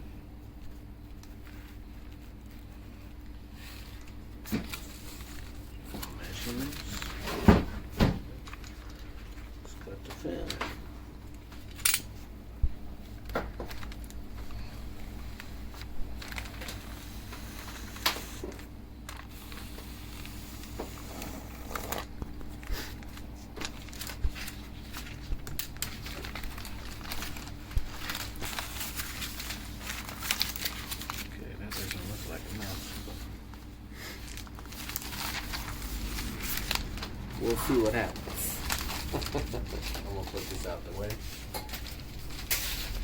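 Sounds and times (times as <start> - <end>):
film crinkling and rustling: 0.4 - 43.0.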